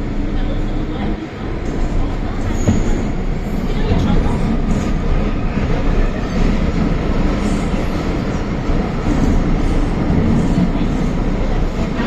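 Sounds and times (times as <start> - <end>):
train running in tunnel: 0.0 - 12.0.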